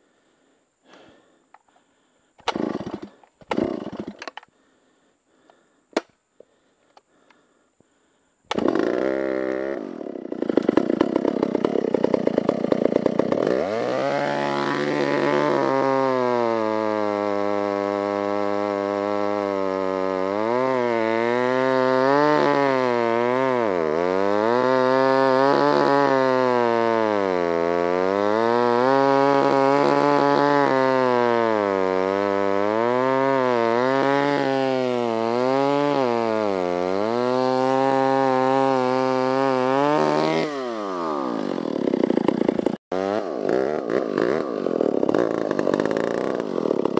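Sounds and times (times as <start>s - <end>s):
chainsaw cutting wood: 2.4s - 4.5s, 8.5s - 46.9s.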